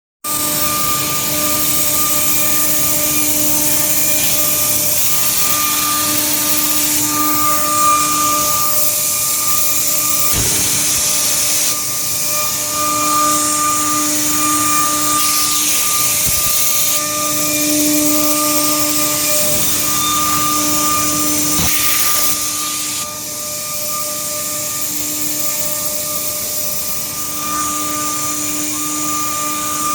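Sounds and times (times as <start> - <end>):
cnc router cutting wood: 0.3 - 29.9.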